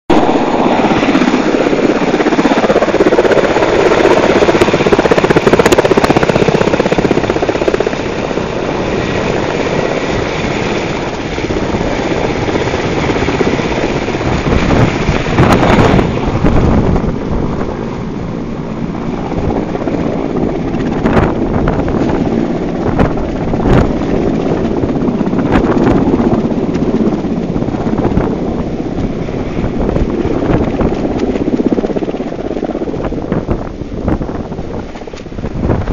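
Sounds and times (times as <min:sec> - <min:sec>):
helicopter engines and rotor: 0:00.1 - 0:35.9.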